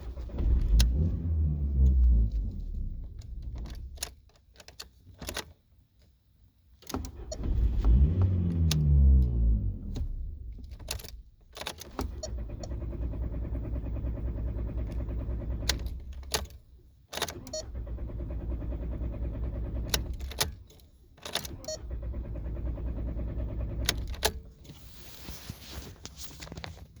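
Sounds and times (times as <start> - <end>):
car engine cranking on starter: 0.0 - 4.1, 7.0 - 25.8.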